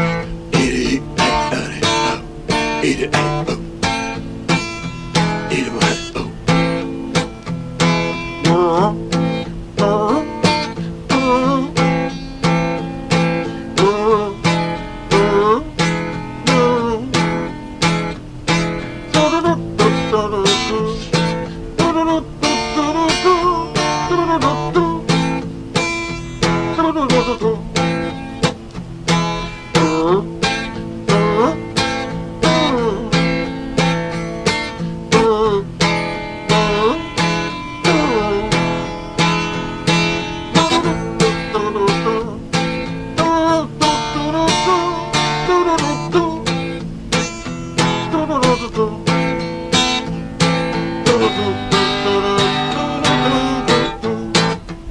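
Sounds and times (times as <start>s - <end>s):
acoustic guitar strummed chords: 0.0s - 54.9s
sliding guitar melody: 0.0s - 54.9s.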